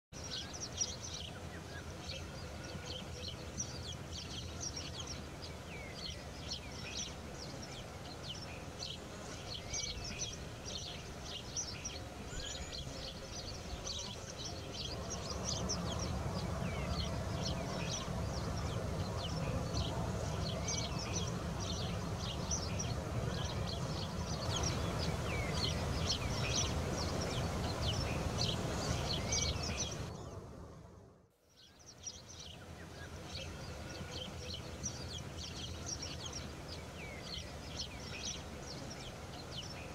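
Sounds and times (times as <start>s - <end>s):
songbirds chirping: 0.1s - 39.9s.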